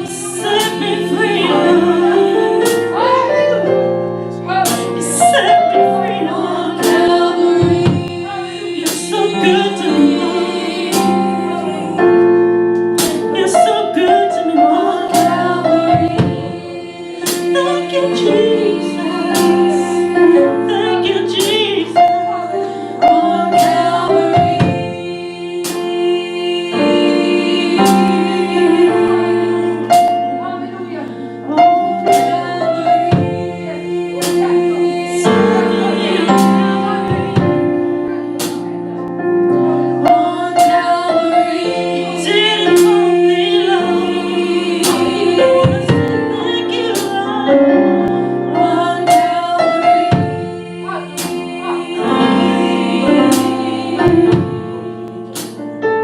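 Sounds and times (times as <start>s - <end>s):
gospel group singing in harmony: 0.0s - 56.0s
sustained keyboard chords: 0.0s - 56.0s.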